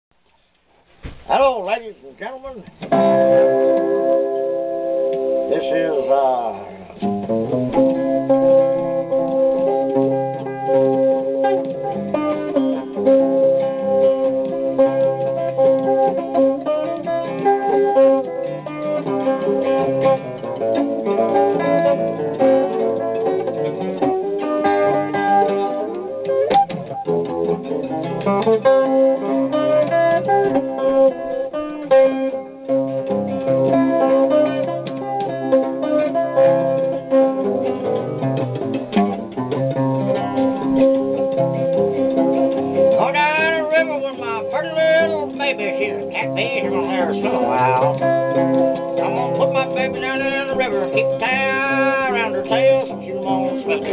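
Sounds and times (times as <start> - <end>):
jazz guitar picking: 1.9 - 53.9.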